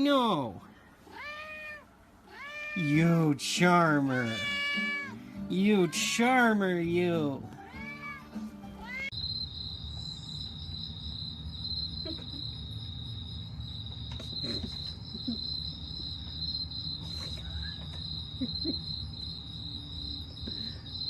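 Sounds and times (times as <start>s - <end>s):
crickets trilling: 2.3s - 7.3s, 8.8s - 21.0s.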